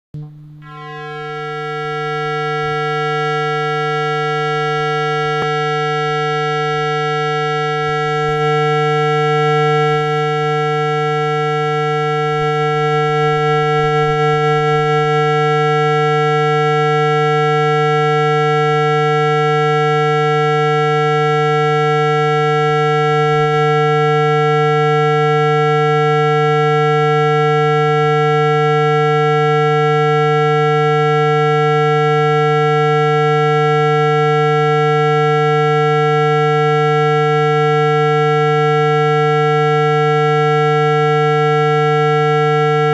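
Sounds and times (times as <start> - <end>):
steady low buzzing tone: 0.2 - 42.9.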